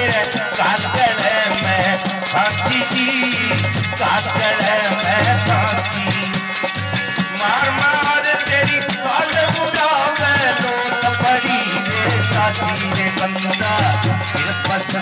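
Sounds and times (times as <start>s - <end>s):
hand clappers rattling: 0.0s - 15.0s
man singing into a microphone: 0.0s - 15.0s.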